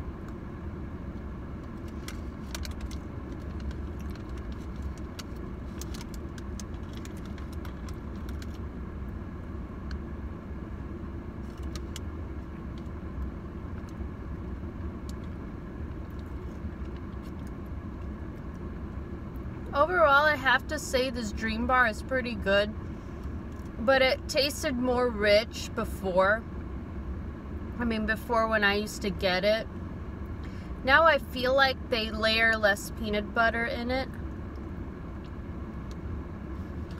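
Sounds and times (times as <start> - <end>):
low car hum: 0.0 - 36.9.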